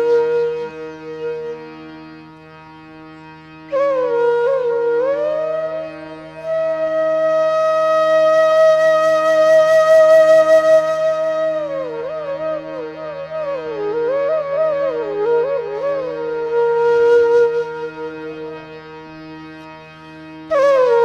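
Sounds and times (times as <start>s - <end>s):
solo flute: 0.0s - 21.0s.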